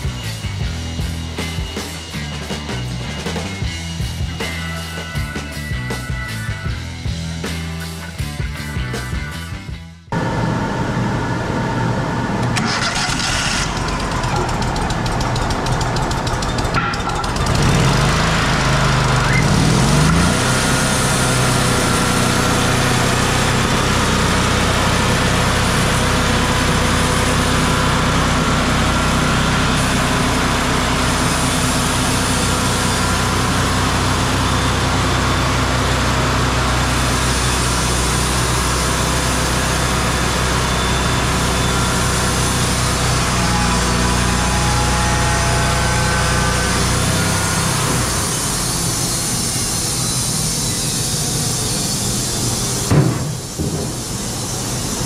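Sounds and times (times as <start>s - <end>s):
sawmill engine running: 10.1s - 55.0s.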